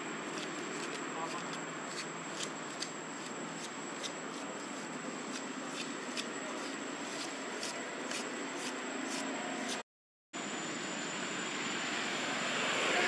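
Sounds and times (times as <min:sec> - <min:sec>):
low hum of distant traffic: 0:00.0 - 0:09.8, 0:10.4 - 0:13.0.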